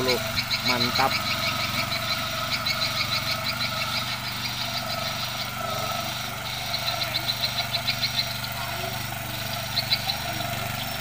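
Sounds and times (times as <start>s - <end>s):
fast high chirping: 0.0s - 11.0s
tiller engine running: 0.0s - 11.0s.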